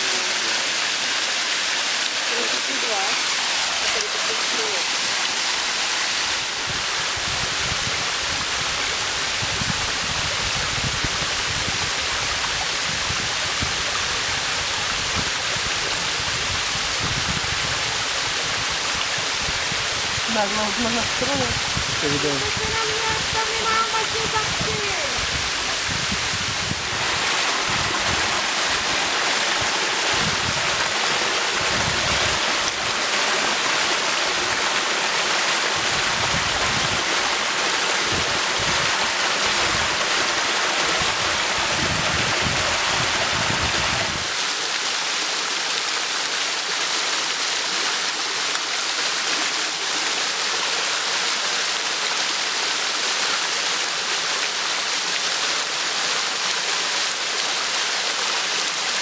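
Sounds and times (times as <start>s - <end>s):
waterfall rushing water: 0.0s - 59.0s.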